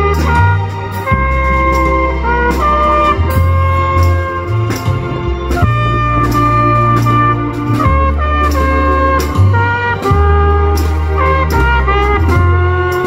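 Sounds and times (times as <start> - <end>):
bass line: 0.0 - 13.0
drum kit beat: 0.0 - 13.0
trumpet playing slow melody: 0.0 - 13.0.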